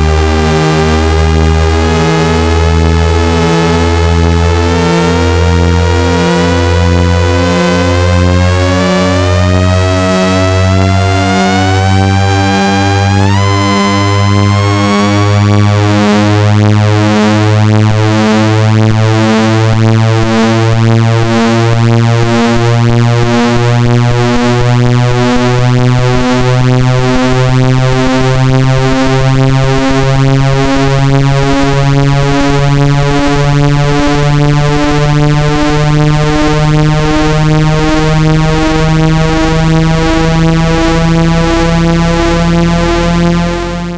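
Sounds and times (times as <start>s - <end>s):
pulsing low buzzing tone: 0.0s - 43.9s.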